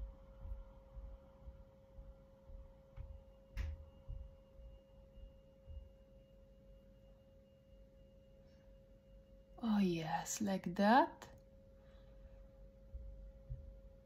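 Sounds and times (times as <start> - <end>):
faint hum-like tone: 0.0 - 14.0.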